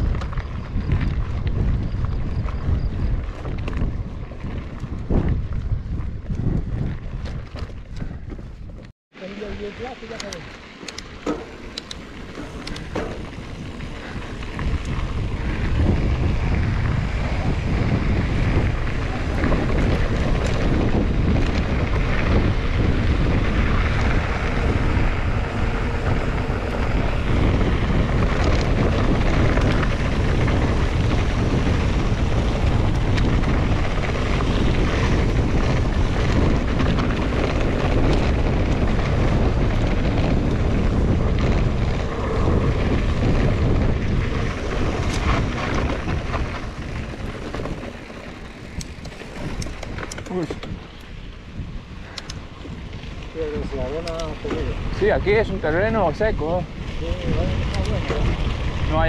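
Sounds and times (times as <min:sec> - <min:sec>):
bike knocking and rattling: 0:00.0 - 0:59.0
wind rumbling over microphone: 0:00.0 - 0:59.0.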